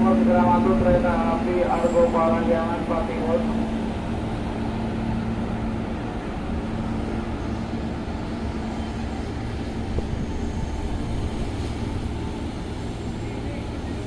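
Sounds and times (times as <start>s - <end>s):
distant train rumbling: 0.0s - 14.0s.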